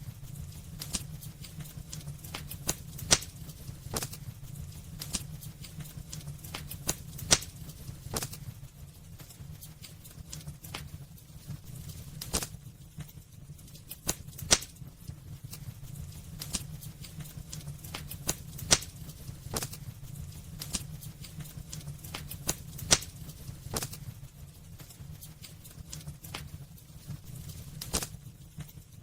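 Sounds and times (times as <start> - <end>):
sharp fire pops: 0.0 - 13.2, 13.8 - 28.3
low fire rumble: 0.0 - 29.0
wood fire crackling: 0.0 - 29.0.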